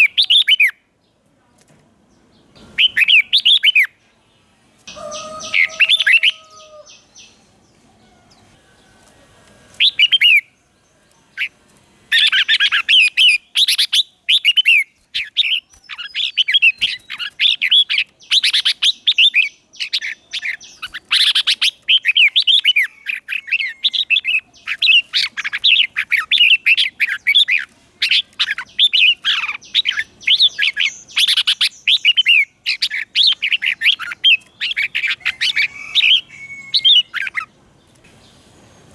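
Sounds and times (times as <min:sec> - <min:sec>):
bulbul singing: 0:02.3 - 0:04.0, 0:04.9 - 0:08.8, 0:09.7 - 0:38.9.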